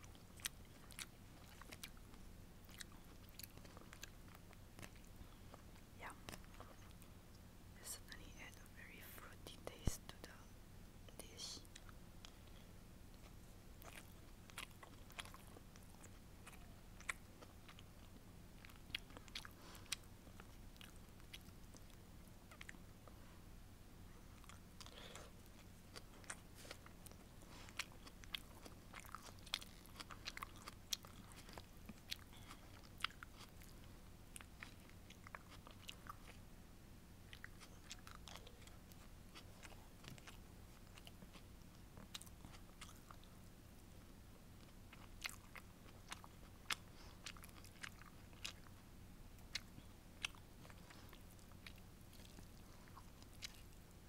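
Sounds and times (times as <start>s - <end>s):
chewing with mouth clicks: 0.0s - 7.4s, 11.6s - 23.3s, 24.1s - 36.5s, 37.2s - 54.0s.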